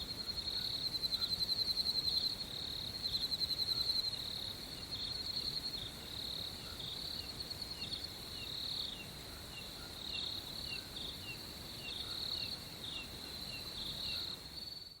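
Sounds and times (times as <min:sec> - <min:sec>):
crickets trilling: 0:00.0 - 0:15.0
lower insect chirp: 0:00.0 - 0:15.0.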